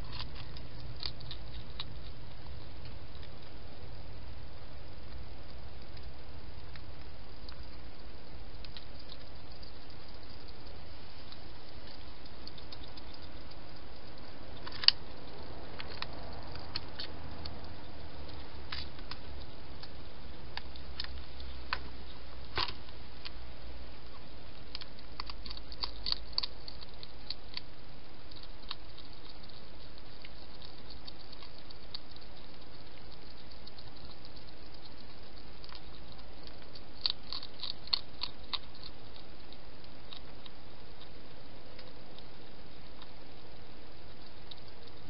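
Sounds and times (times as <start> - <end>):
hedgehog eating clicks: 0.0 - 45.0
steady hiss: 0.0 - 45.0.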